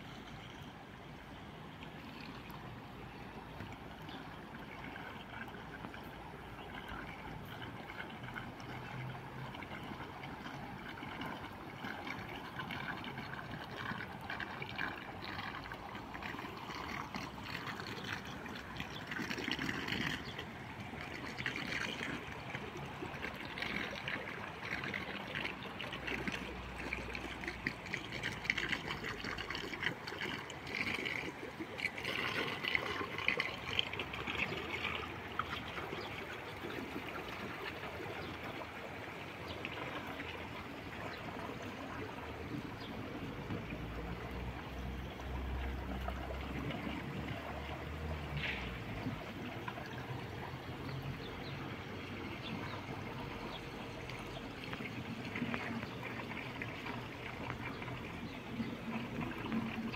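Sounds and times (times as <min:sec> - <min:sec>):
pool water trickling: 0:00.0 - 0:59.9.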